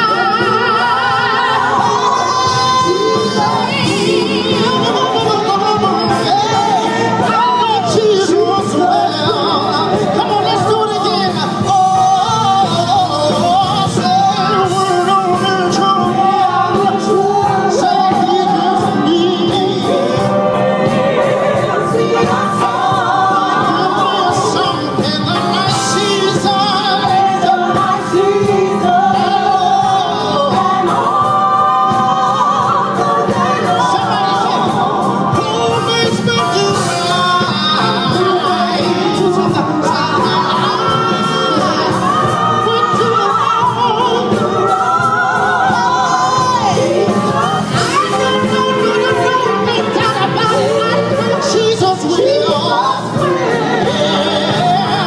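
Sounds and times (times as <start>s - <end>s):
instrumental accompaniment with beat: 0.0s - 55.0s
person singing gospel song: 0.0s - 55.0s.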